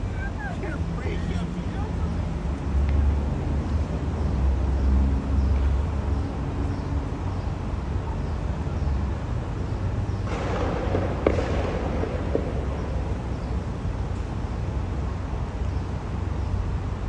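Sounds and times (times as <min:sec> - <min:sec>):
city background rumble: 0:00.0 - 0:17.0.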